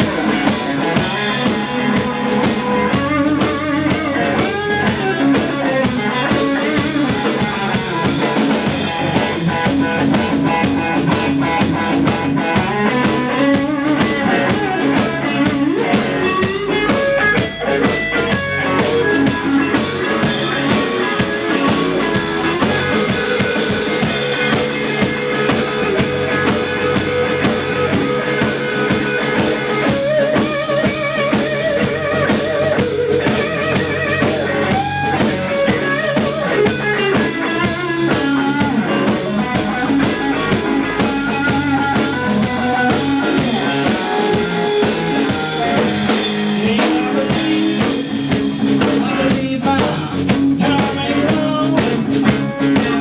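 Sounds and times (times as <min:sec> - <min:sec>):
drum kit: 0:00.0 - 0:53.0
electric bass: 0:00.0 - 0:53.0
electric guitar lead: 0:00.0 - 0:53.0.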